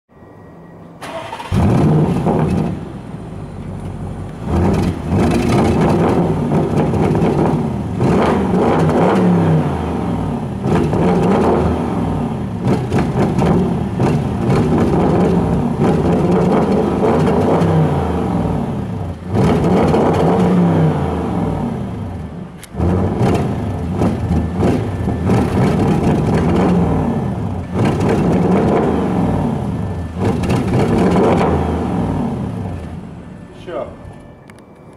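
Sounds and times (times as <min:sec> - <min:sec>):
car engine revving: 0:01.0 - 0:33.4.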